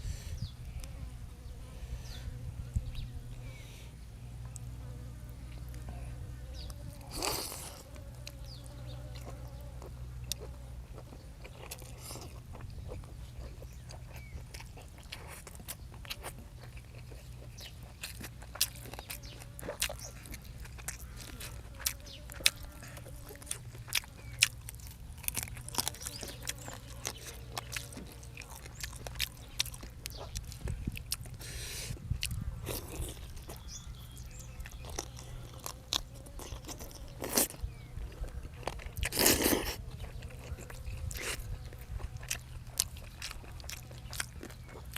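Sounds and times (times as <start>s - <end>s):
steady low hum: 0.0s - 44.9s
person chewing and crunching: 5.5s - 44.9s.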